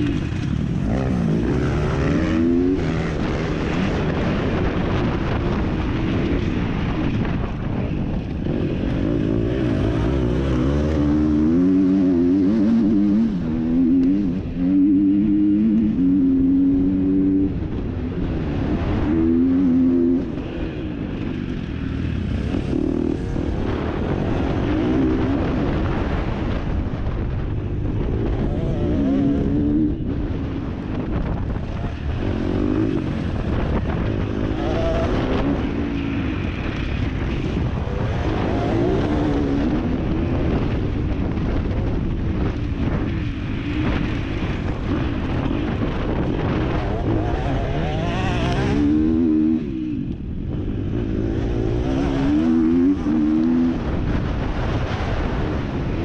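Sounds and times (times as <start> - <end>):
motocross bike engine revving: 0.0 - 7.2, 8.4 - 26.5, 27.8 - 30.1, 31.2 - 40.9, 42.8 - 50.1, 50.8 - 56.0.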